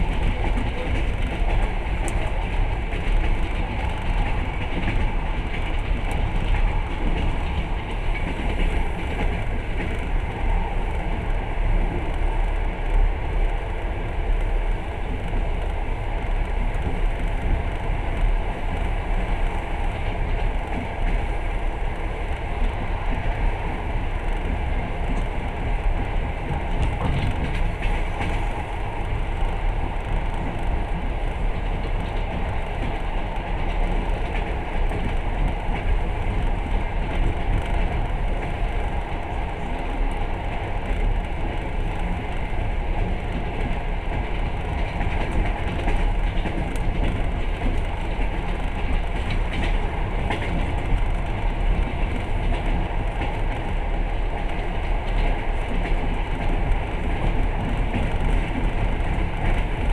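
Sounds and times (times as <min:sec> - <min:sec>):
faint track clicks: 0:00.0 - 0:13.6, 0:21.9 - 0:59.9
train wheels rumbling on rails: 0:00.0 - 0:59.9.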